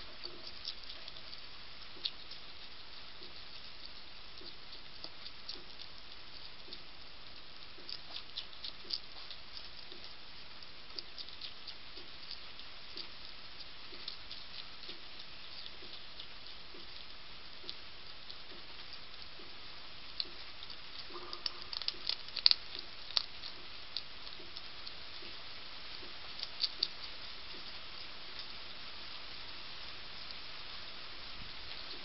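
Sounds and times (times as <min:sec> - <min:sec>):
hedgehog crunching dry food: 0:00.0 - 0:32.0
steady background hiss: 0:00.0 - 0:32.0.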